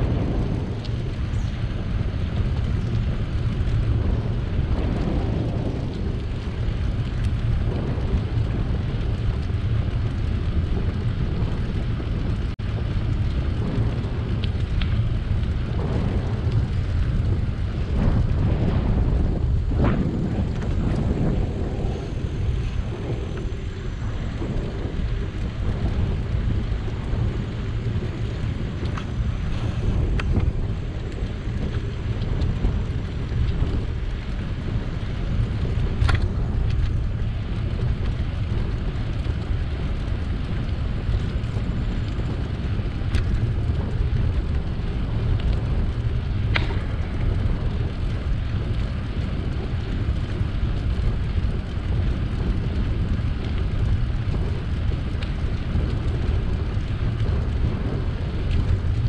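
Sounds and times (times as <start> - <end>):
tyre and road noise: 0.0 - 59.0
wind rumble on microphone: 0.0 - 59.0.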